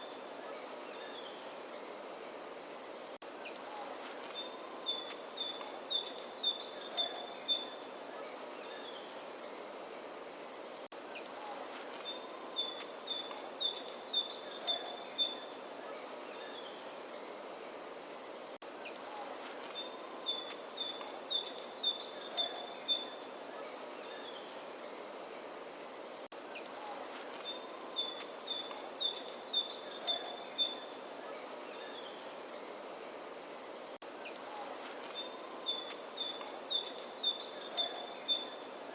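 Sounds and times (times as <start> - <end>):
songbird singing: 0.0 - 38.9
steady background hiss: 0.0 - 38.9.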